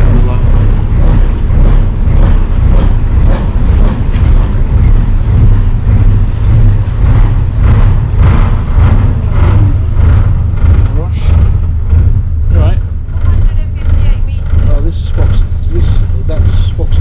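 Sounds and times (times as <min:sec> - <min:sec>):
barge engine rumble: 0:00.0 - 0:17.0.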